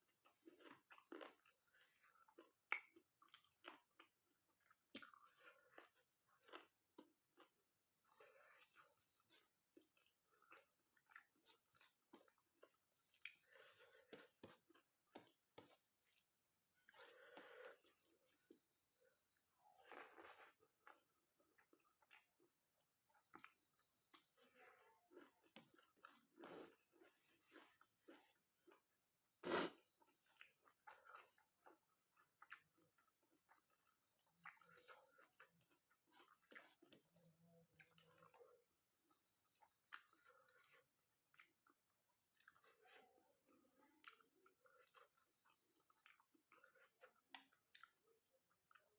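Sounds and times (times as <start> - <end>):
wet chewing smacks: 0.2 - 18.6, 19.8 - 28.9, 29.5 - 48.9.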